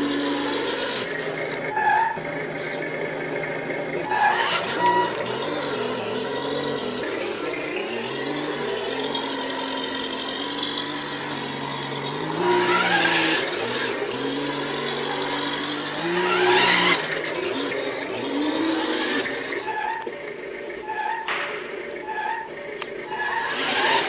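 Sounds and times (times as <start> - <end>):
electric toy truck motor whining: 0.0 - 24.0.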